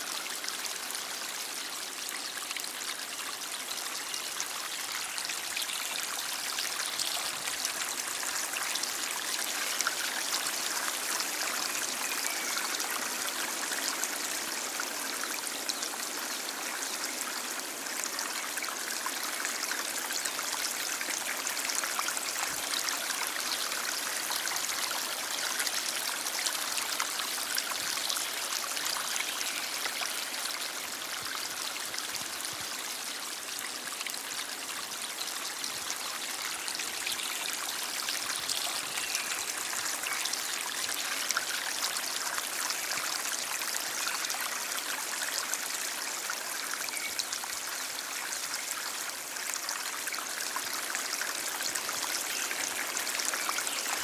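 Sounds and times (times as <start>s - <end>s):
stream of water flowing: 0.0s - 54.0s.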